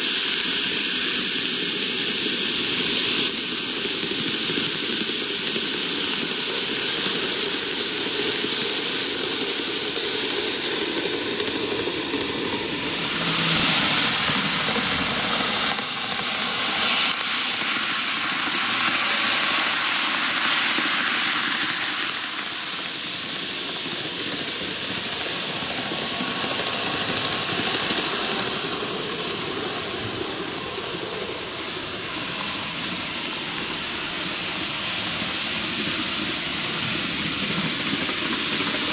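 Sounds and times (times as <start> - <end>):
model trains rattling on rails: 0.0 - 38.9.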